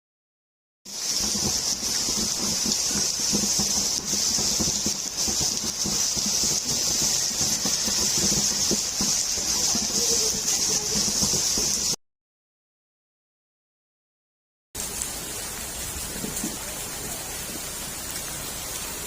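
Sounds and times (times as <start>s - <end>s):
heavy rain hissing: 0.9s - 12.0s, 14.8s - 19.0s.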